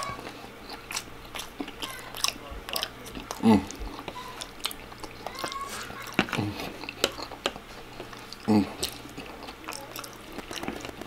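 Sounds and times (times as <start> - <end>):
person biting and chewing food: 0.0 - 11.0.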